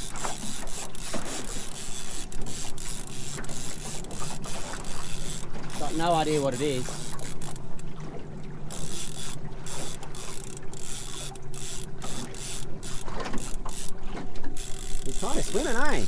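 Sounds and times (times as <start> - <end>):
fishing reel ticking and whirring: 0.0 - 7.9, 8.6 - 16.0
outboard motor humming: 0.0 - 16.0.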